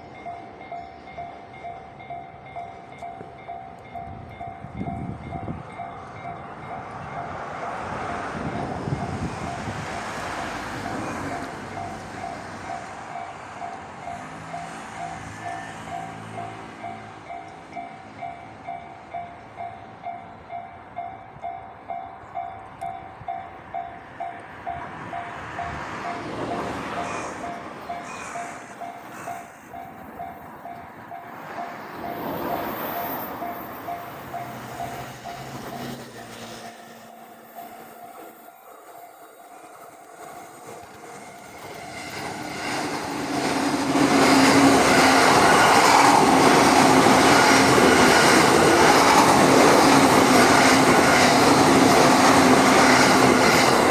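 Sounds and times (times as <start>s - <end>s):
level crossing warning bell: 0.0s - 53.9s
train running noise: 0.0s - 53.9s.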